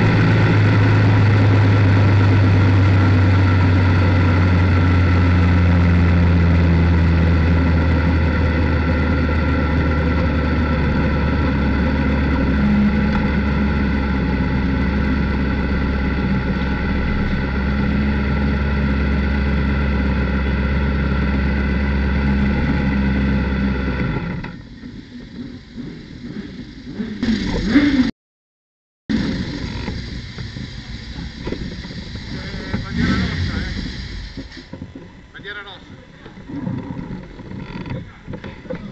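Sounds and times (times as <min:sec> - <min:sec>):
motorcycle engine idling: 0:00.0 - 0:28.1, 0:29.1 - 0:36.5.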